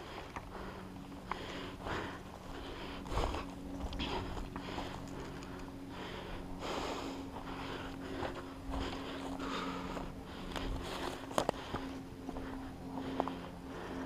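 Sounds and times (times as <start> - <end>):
faint steady hum: 0.0 - 14.0
person breathing: 0.0 - 14.0.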